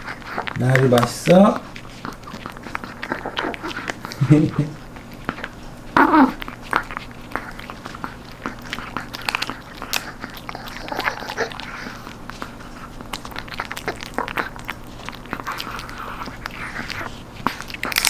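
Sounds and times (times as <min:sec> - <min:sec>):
dog crunching bone treat: 0:00.0 - 0:18.0.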